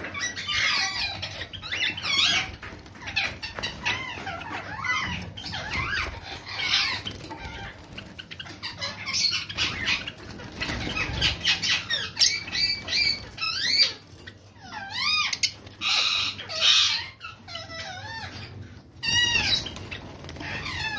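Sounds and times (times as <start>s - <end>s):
raspy bird calls: 0.0s - 20.9s
small birds chirping and whistling: 0.0s - 20.9s.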